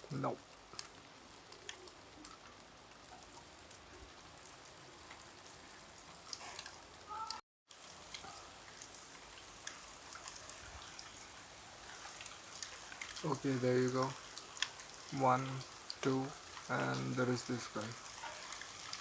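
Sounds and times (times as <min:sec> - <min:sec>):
light rain hissing: 0:00.0 - 0:19.0
raindrops clicking close by: 0:00.0 - 0:19.0.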